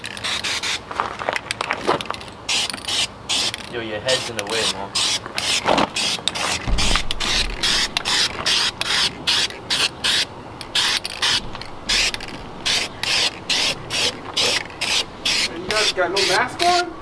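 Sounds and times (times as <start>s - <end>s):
spray paint can hissing: 0.1s - 0.8s, 2.5s - 3.7s, 4.6s - 16.8s.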